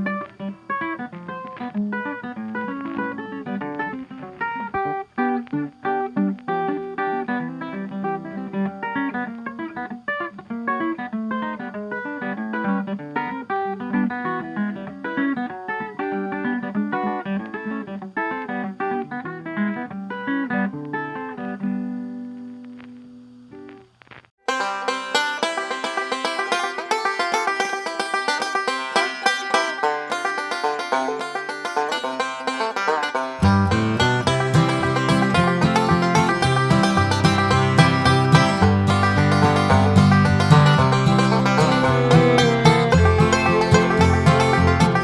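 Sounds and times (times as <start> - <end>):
guitar plucked notes: 0.0 - 22.1, 24.5 - 45.0.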